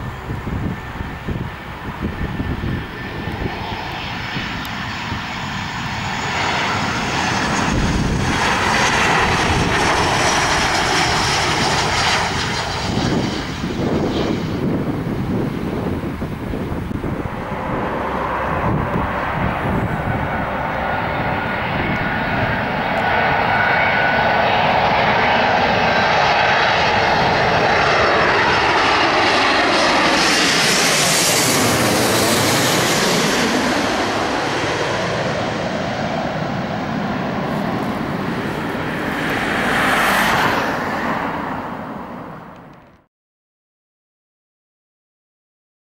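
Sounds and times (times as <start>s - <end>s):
jet airliner passing overhead: 0.0s - 43.1s.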